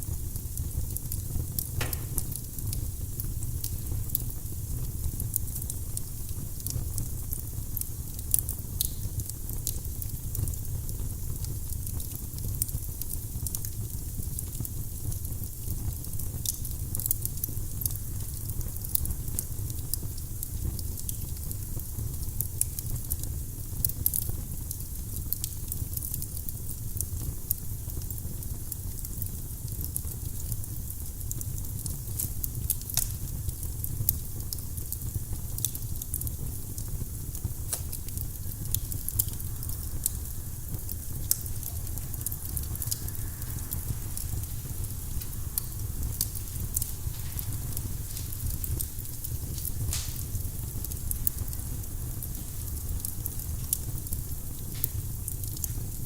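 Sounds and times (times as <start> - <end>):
firewood crackling and popping: 0.1 - 56.0.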